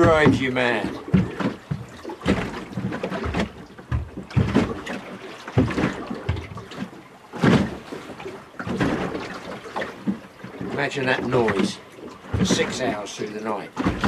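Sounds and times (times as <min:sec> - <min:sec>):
wash of water: 0:00.0 - 0:03.6, 0:04.2 - 0:14.0
waves banging under boat hull: 0:00.0 - 0:14.0.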